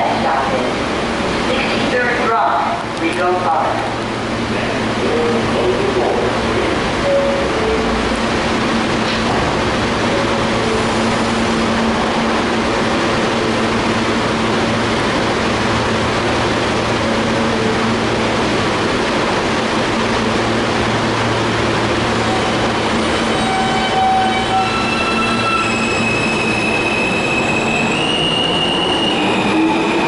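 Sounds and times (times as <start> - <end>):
station noise: 0.0 - 30.0
subway train humming: 0.0 - 30.0.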